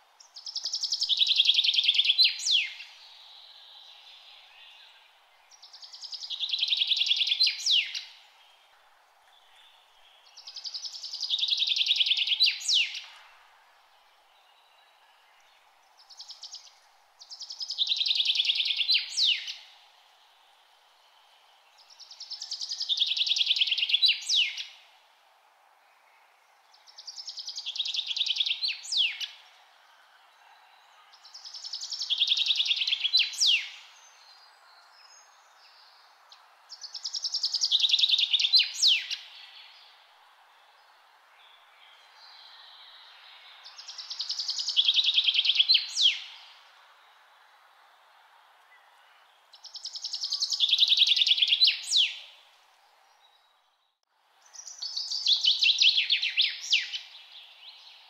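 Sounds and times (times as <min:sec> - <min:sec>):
faint steady hiss: 0:00.0 - 0:58.0.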